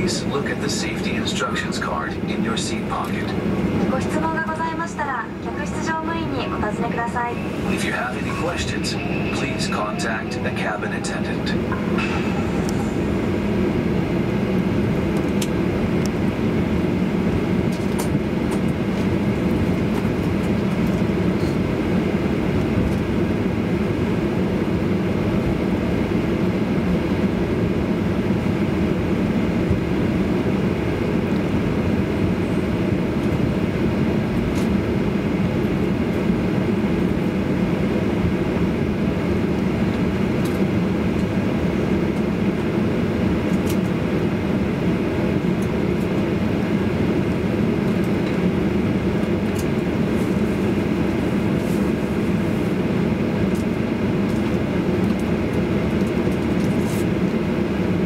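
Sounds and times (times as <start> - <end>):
aircraft rolling noise: 0.0 - 58.0
jet engines humming: 0.0 - 58.0.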